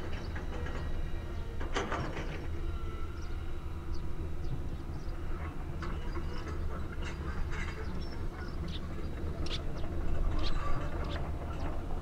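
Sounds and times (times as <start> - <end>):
jet engines rumbling overhead: 0.0 - 12.0.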